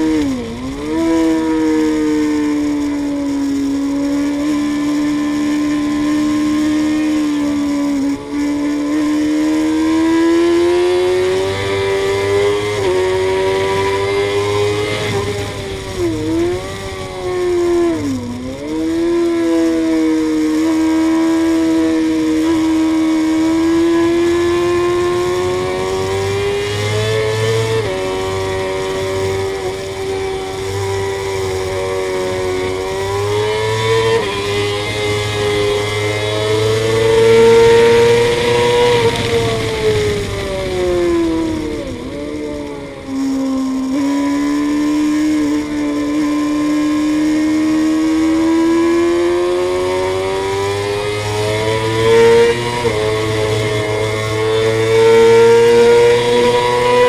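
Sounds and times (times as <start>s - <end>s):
sport motorcycle engine revving: 0.0s - 57.0s.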